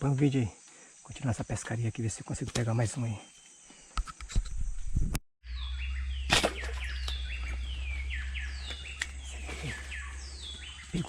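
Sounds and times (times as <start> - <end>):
birds chirping: 0.0 - 4.0, 5.4 - 11.0.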